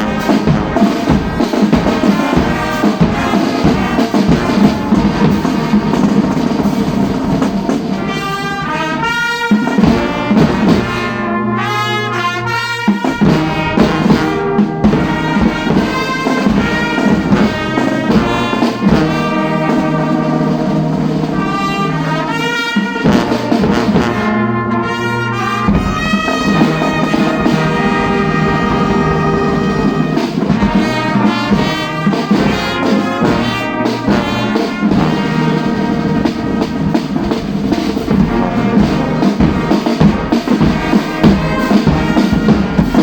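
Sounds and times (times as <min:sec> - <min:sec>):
brass band playing: 0:00.0 - 0:43.0.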